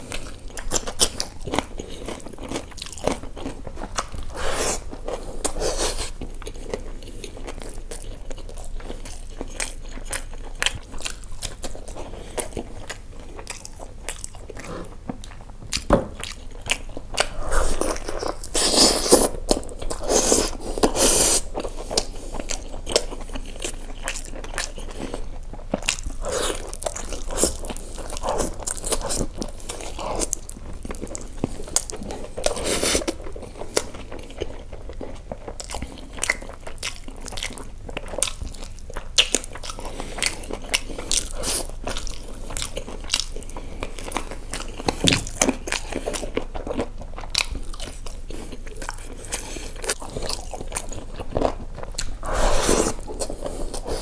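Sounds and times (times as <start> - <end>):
person chewing meat: 0.0 - 54.0.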